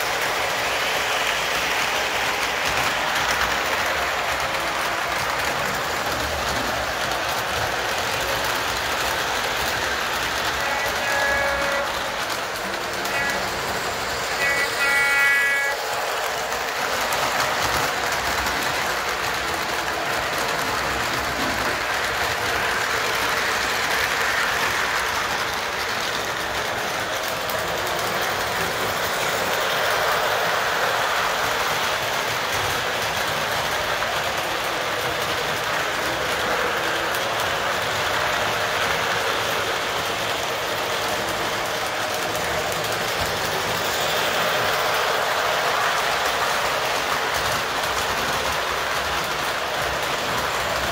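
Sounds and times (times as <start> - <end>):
model train wheels rattling on track: 0.0 - 50.9.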